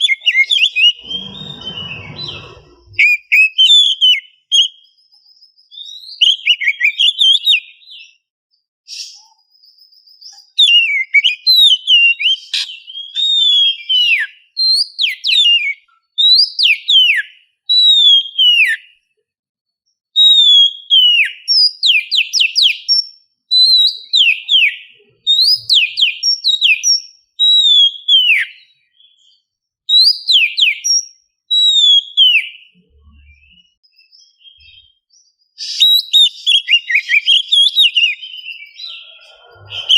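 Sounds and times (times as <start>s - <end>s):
bird singing whistled phrases: 0.0s - 8.2s, 8.9s - 18.9s, 20.2s - 39.9s.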